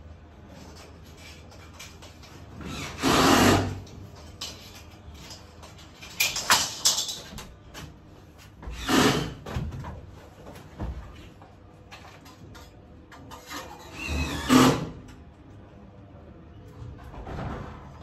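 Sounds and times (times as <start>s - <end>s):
scraping and clattering at ductwork: 0.0s - 15.2s.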